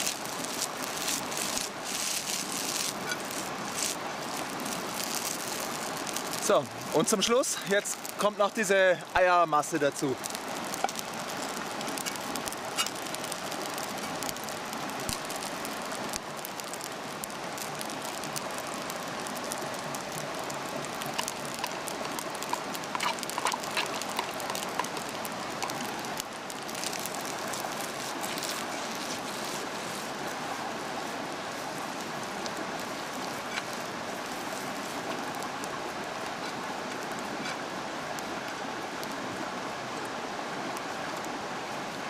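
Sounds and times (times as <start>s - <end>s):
food sizzling in a frying pan: 0.0s - 39.2s.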